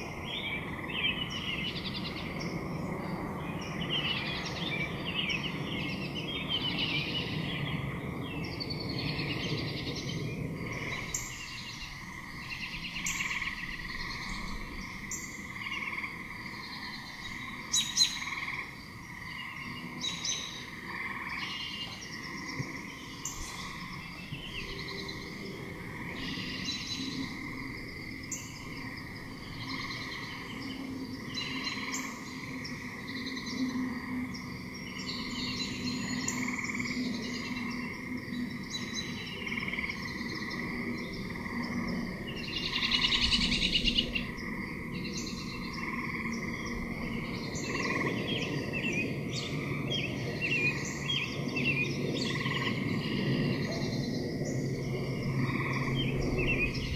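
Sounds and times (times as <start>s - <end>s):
frogs croaking: 0.0s - 56.9s.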